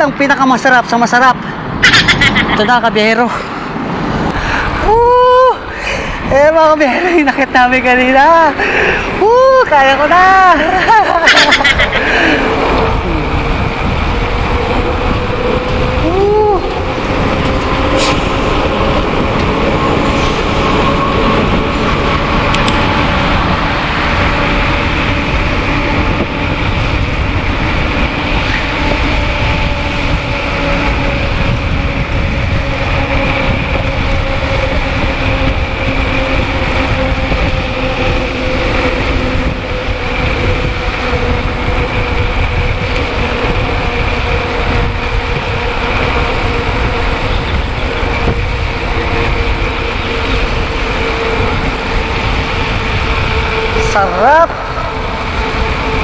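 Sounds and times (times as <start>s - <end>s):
wind on microphone: 1.3s - 56.0s
bike tyre noise: 8.5s - 56.0s.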